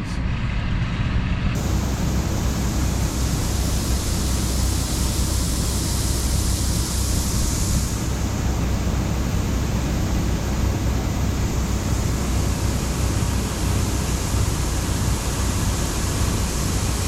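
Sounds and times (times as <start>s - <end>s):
combine engine drone: 0.0s - 17.0s
broad rushing noise: 0.6s - 17.0s.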